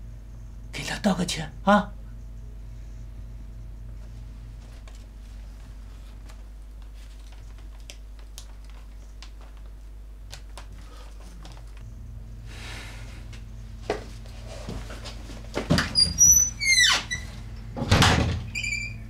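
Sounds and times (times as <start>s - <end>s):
low hum: 0.0s - 7.7s, 8.9s - 19.0s.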